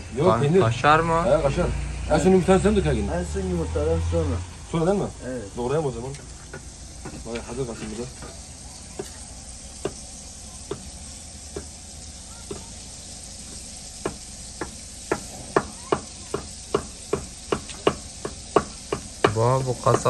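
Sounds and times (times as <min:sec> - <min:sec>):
food sizzling in frying: 0:00.0 - 0:20.0.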